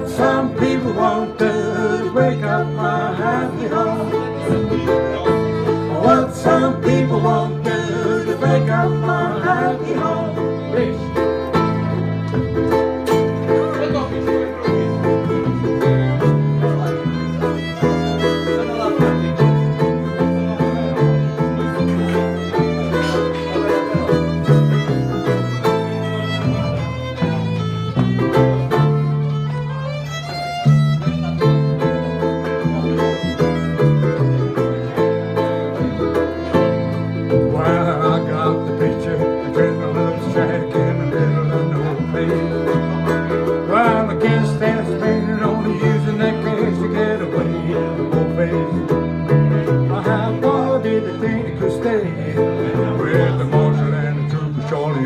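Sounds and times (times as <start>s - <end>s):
fiddle: 0.0s - 55.0s
small strummed string instrument: 0.0s - 55.0s
strummed acoustic guitar: 0.0s - 55.0s.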